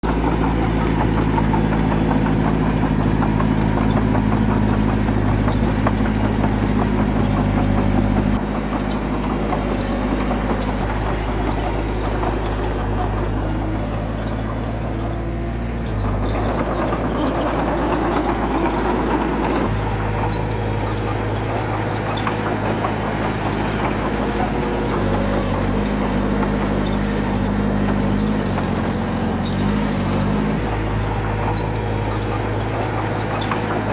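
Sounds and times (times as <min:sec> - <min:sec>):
diesel engine of heavy machinery: 0:00.0 - 0:33.9
rough noisy grinding sound: 0:00.0 - 0:33.9.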